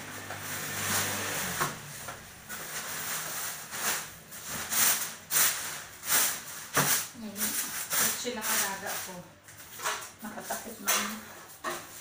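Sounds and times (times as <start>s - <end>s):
plastic sheeting rustling and crinkling: 0.0s - 12.0s.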